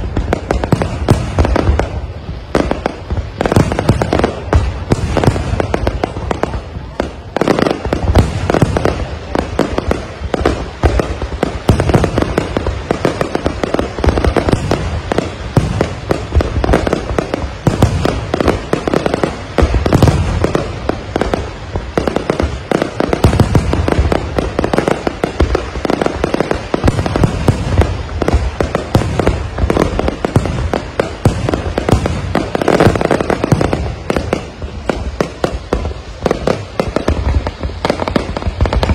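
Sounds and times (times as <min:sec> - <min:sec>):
fireworks bursting with sharp bangs: 0:00.0 - 0:38.9.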